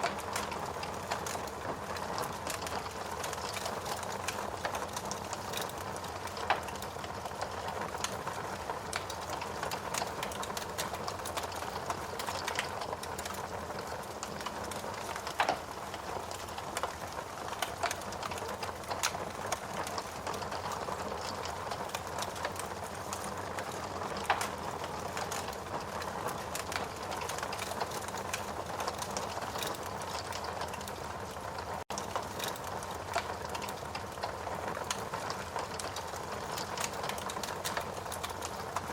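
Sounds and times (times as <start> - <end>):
fire crackling: 0.0 - 38.9
fire popping: 0.0 - 38.9
wood fire hissing: 0.0 - 38.9.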